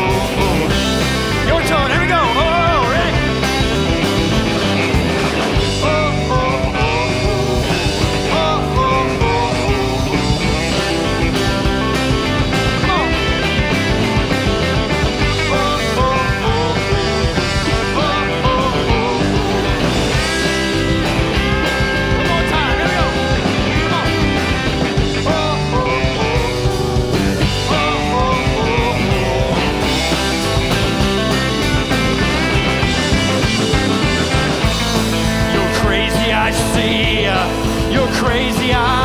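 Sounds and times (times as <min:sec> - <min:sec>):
electric guitar: 0:00.0 - 0:39.0
live rock band playing: 0:00.0 - 0:39.0.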